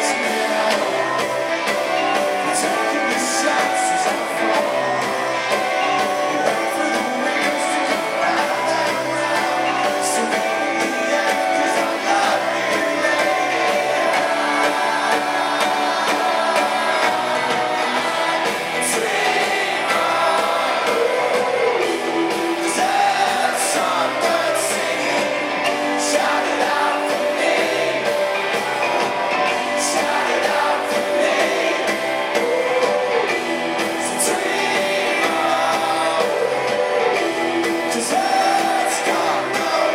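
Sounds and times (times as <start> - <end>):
male lead vocal singing: 0.0 - 39.9
rock band playing live: 0.0 - 39.9.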